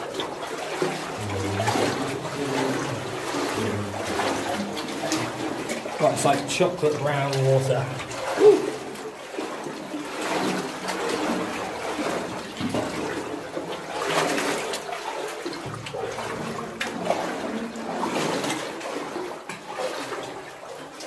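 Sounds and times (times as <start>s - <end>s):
water sloshing as someone wades: 0.0s - 21.0s.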